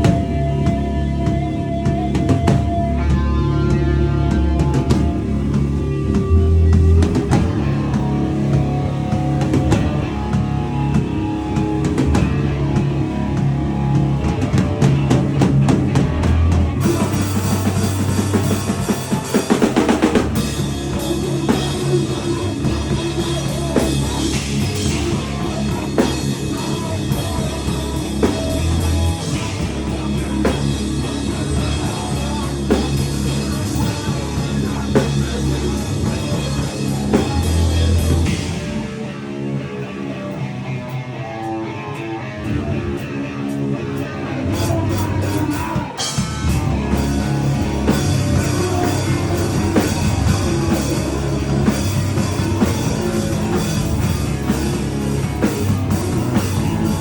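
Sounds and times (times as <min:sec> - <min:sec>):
loud live band playing: 0:00.0 - 0:57.0.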